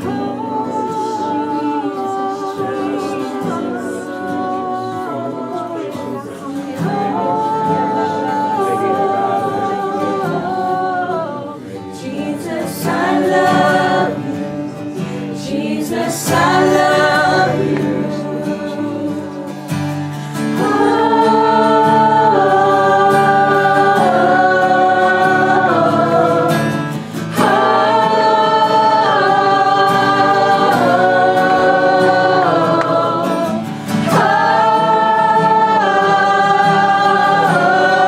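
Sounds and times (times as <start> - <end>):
slow worship singing: 0.0 - 38.0.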